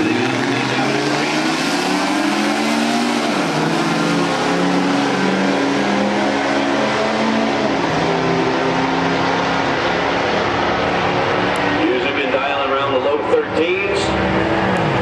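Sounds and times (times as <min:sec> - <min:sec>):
pickup trucks racing at full throttle: 0:00.0 - 0:15.0.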